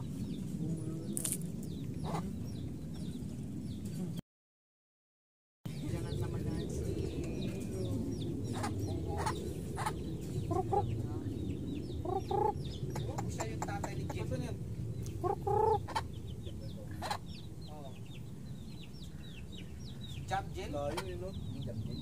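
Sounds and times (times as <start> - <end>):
chickens clucking: 0.0 - 3.2, 5.8 - 11.3, 12.0 - 22.0
steady low rumble: 0.0 - 4.2, 5.7 - 22.0.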